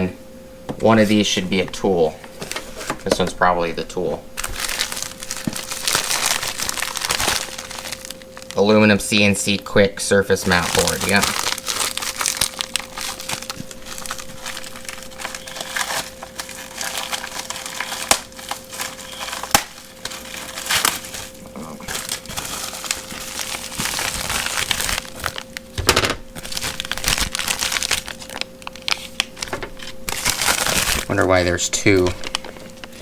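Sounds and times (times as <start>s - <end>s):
faint steady hum: 0.0s - 33.0s
packaging crinkling and rustling: 0.9s - 9.3s, 10.2s - 33.0s.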